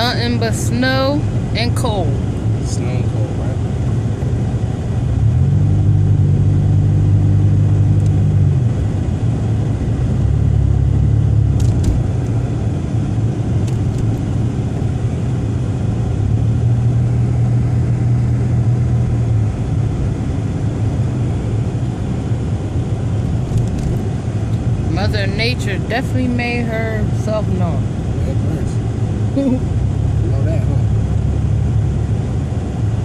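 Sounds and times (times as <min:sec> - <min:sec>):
car engine humming: 0:00.0 - 0:33.0
road noise: 0:00.0 - 0:33.0.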